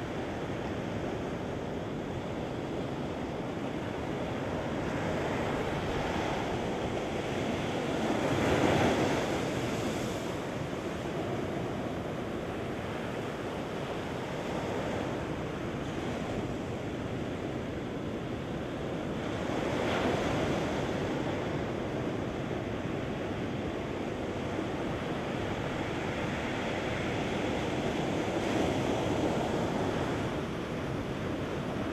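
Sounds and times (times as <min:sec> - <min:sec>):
waves breaking on a beach: 0:00.0 - 0:31.9.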